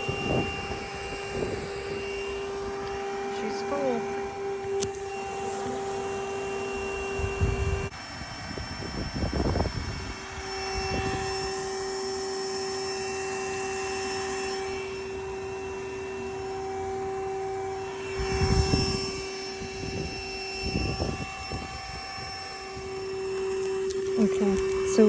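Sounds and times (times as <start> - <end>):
vacuum motor whine: 0.0 - 25.0.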